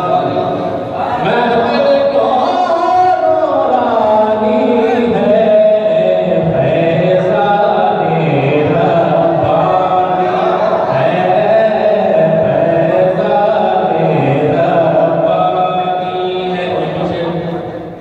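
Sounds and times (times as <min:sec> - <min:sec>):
man singing through a microphone: 0:00.0 - 0:17.8.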